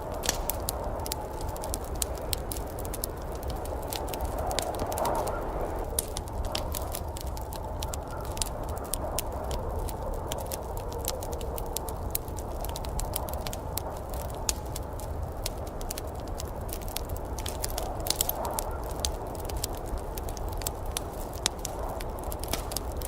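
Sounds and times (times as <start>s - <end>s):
rushing storm noise: 0.0s - 23.0s
wood fire crackling: 0.0s - 23.0s.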